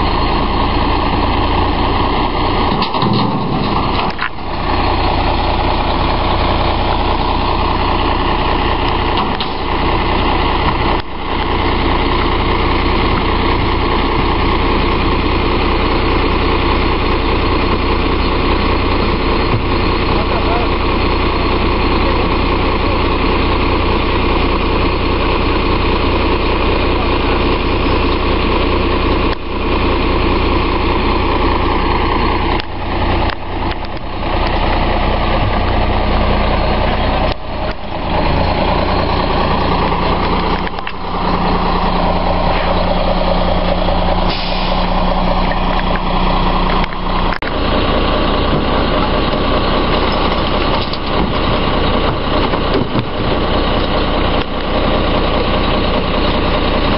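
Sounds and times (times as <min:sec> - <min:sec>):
diesel engine idling: 0:00.0 - 0:56.9.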